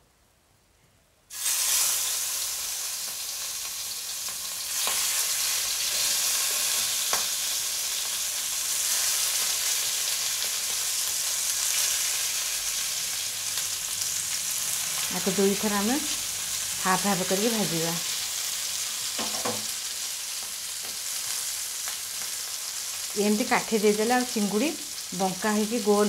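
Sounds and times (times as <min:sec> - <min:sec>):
prawns sizzling in oil: 0:01.3 - 0:26.0.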